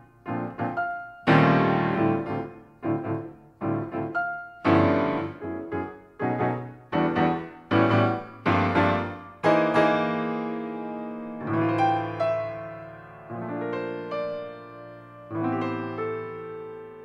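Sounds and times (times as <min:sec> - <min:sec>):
piano chords ringing: 0:00.0 - 0:17.0.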